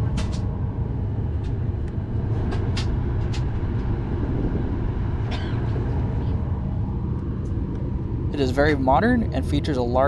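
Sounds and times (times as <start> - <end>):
aircraft cabin ventilation rumble: 0.0 - 10.0.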